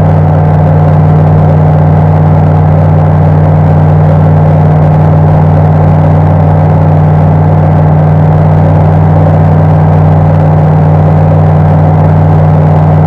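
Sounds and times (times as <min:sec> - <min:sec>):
aircraft engine drone in cockpit: 0:00.0 - 0:13.0.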